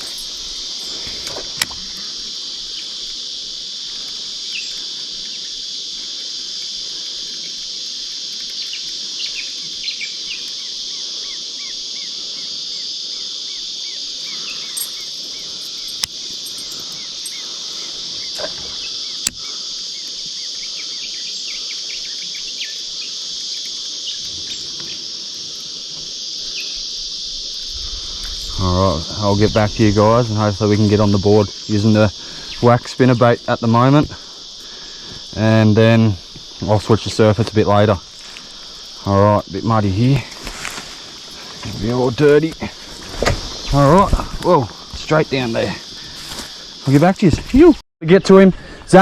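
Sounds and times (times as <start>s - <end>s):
high-pitched insect chorus: 0.0s - 49.0s.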